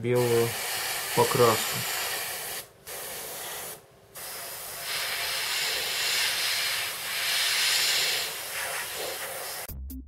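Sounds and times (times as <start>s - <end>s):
airbrush spraying hiss: 0.1s - 9.7s.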